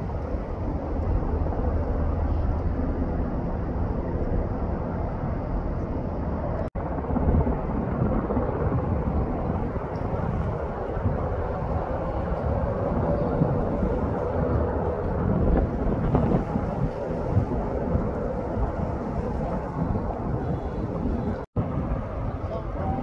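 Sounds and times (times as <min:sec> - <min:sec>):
distant helicopter drone: 0:00.0 - 0:23.0.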